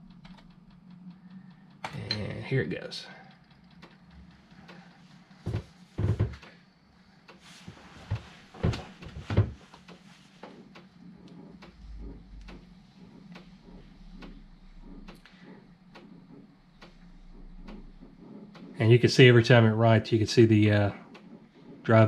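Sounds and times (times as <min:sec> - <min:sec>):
floppy drive motor hum: 0:00.0 - 0:22.0.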